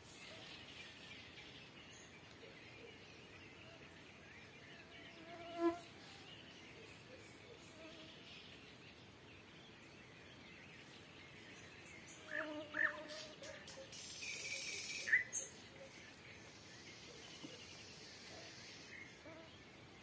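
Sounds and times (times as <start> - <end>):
faint evening ambience: 0.0 - 20.0
nightingale song: 0.0 - 20.0.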